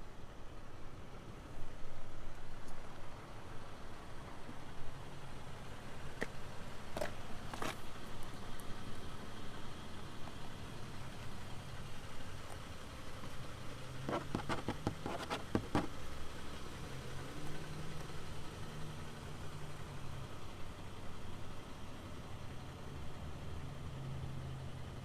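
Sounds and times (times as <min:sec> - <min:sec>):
car engine idling: 0:02.5 - 0:25.0.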